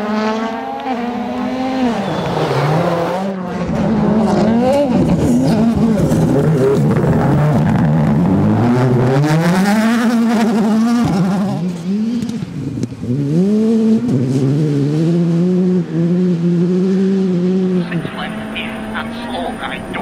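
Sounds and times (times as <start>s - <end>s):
rally car engines accelerating: 0.0s - 20.0s.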